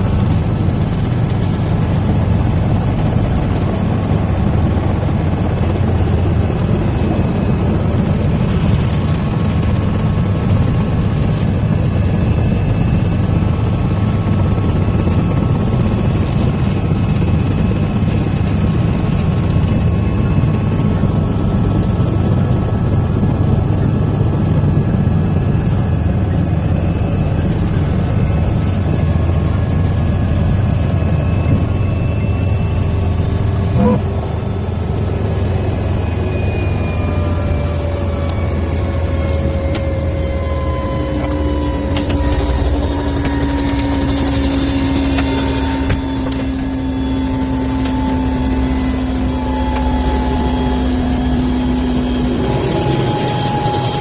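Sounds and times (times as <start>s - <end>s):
faint high whine: 0.0s - 54.0s
helicopter rotor drone: 0.0s - 54.0s.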